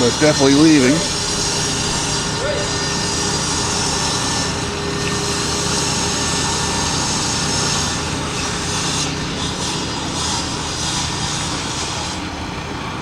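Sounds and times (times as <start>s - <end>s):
pulsing hiss: 0.0s - 12.7s
heavy machinery engines droning: 0.0s - 13.0s.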